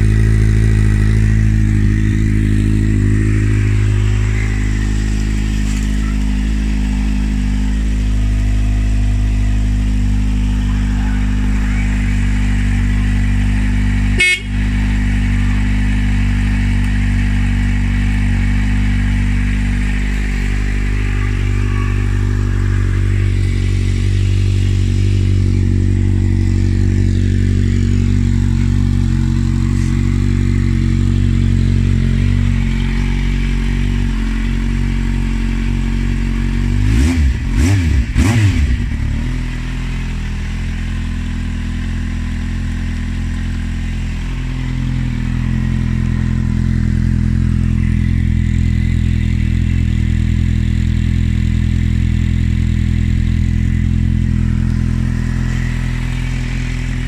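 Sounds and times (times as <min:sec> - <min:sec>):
engine revving: 0:00.0 - 0:57.0
motorcycle engine idling: 0:00.0 - 0:57.0.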